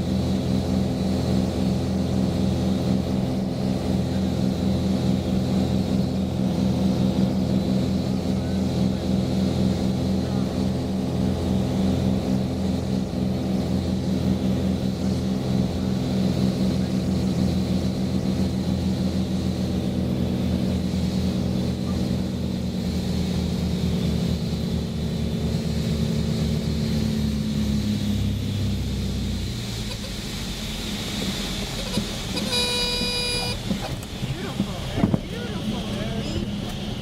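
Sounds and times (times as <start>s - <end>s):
propeller plane engines droning: 0.0s - 37.0s.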